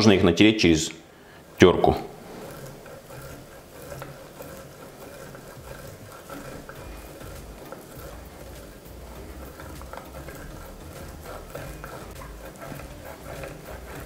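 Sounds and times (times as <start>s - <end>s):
sausage rasping on grater: 1.4s - 14.0s.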